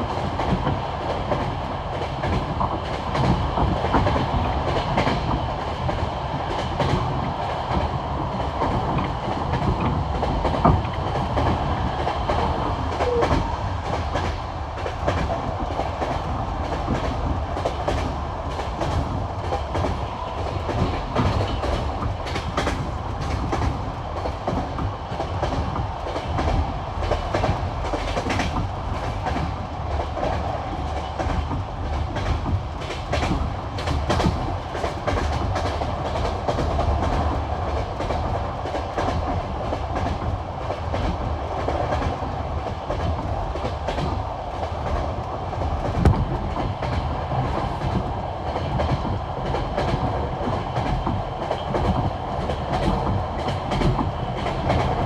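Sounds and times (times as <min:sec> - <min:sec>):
train rumbling over rail joints: 0:00.0 - 0:55.0.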